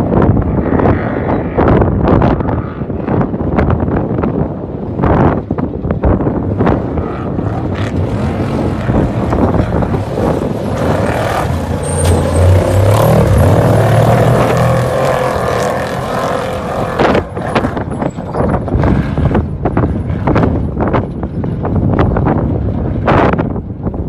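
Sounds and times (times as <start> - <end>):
trucks racing past: 0.0 - 24.0.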